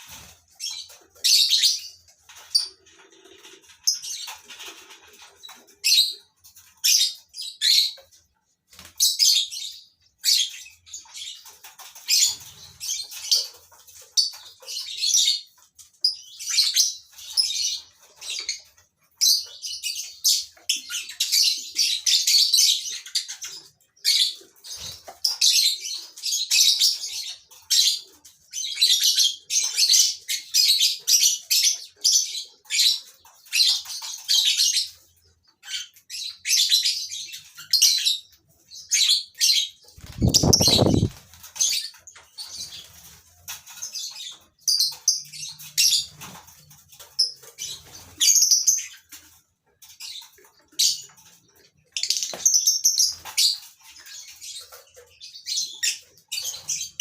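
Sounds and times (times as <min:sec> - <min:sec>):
lovebirds chirping and chattering: 0:00.0 - 0:57.0.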